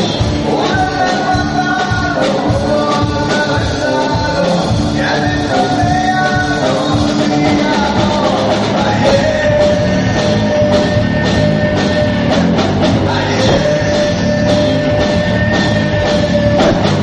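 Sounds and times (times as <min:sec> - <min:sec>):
drum kit: 0:00.0 - 0:17.0
electric guitars: 0:00.0 - 0:17.0
rock band playing loud: 0:00.0 - 0:17.0.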